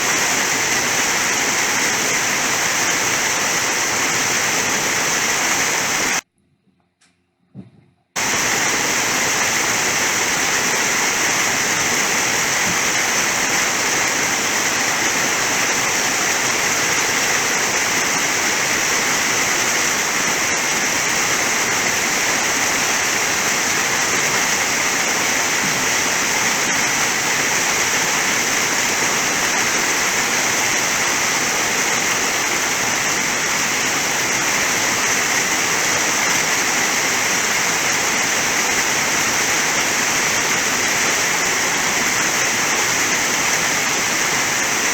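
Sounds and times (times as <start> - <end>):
waterfall rushing: 0.0 - 6.2, 8.2 - 44.9.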